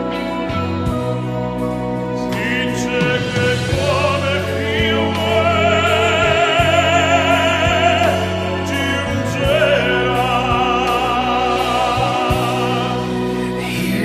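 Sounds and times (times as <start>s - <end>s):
orchestra sustained chords: 0.0s - 14.0s
operatic tenor singing: 2.0s - 14.0s.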